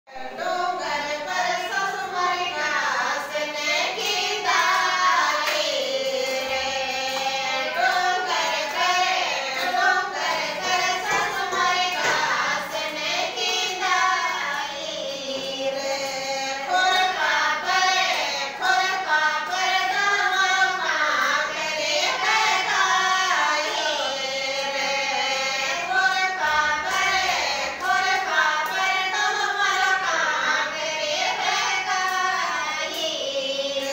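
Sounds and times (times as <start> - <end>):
women singing folk song: 0.1 - 33.9.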